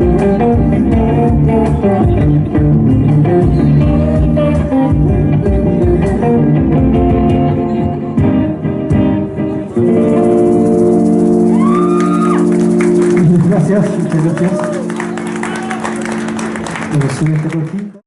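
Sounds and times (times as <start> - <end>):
live band playing: 0.0 - 17.6.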